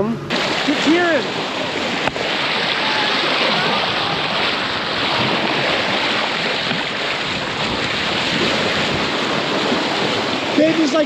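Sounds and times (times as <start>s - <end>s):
bow wave splashing along hull: 0.3s - 11.0s
wind buffeting microphone: 0.3s - 11.0s.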